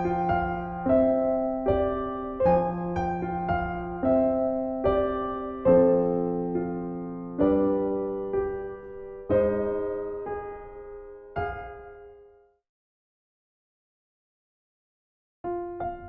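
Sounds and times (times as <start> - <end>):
slow gentle piano chords: 0.0 - 12.6, 15.5 - 16.0.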